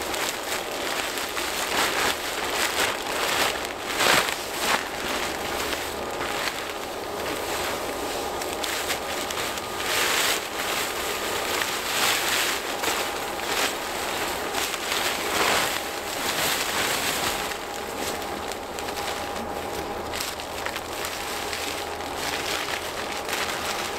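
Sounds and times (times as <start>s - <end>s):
plastic tarp rustling: 0.0s - 23.9s.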